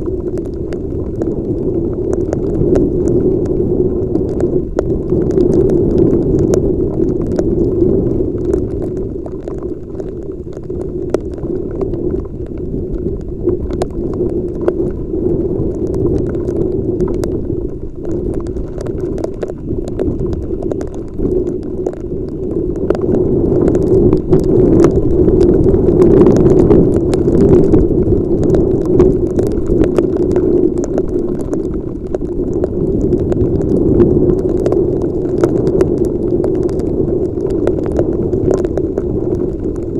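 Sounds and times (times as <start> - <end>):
raindrops clicking on microphone: 0.0 - 39.9
wind and rain rumble on microphone: 0.0 - 39.9.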